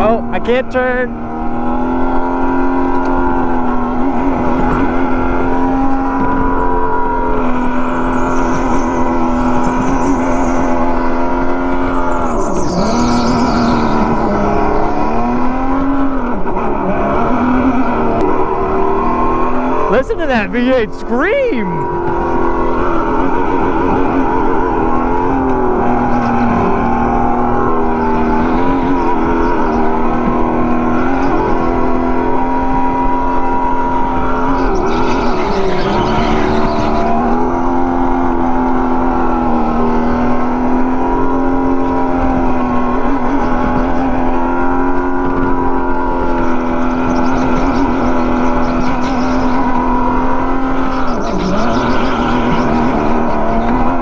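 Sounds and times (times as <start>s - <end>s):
go-kart motor running: 1.1s - 54.0s.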